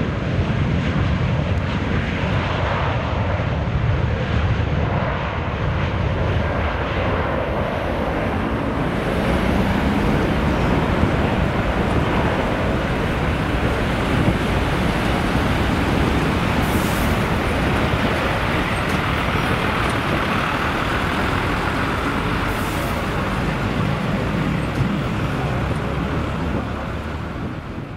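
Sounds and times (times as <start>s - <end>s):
jet airliner taking off: 0.0s - 27.9s.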